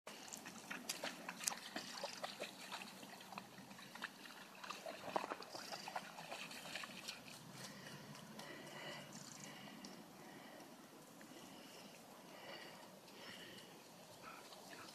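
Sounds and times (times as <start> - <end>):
dog paws splashing in water: 0.1 - 11.8, 12.6 - 14.9.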